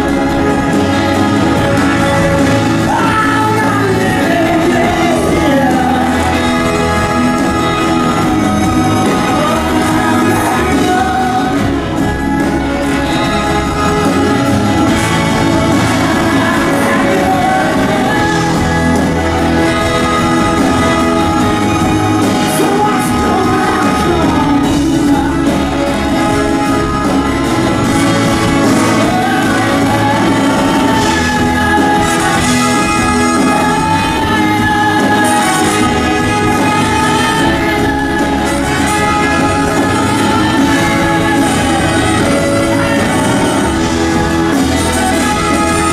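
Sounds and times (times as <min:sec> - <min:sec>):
man singing: 0:00.0 - 0:45.9
strummed acoustic guitar: 0:00.0 - 0:45.9.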